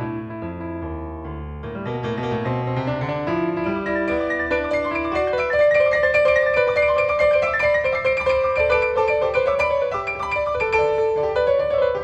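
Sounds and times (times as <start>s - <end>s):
fast piano run: 0.0s - 12.0s.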